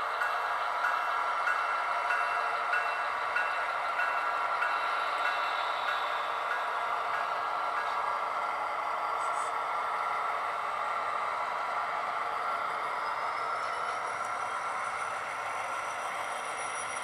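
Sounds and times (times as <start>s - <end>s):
train wheels rattling on rails: 0.0s - 17.0s.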